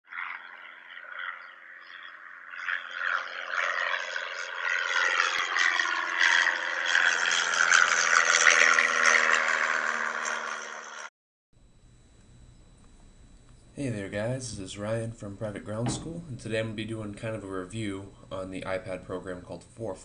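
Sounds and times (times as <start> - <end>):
electronic drone with shimmering wash: 0.1 - 19.9.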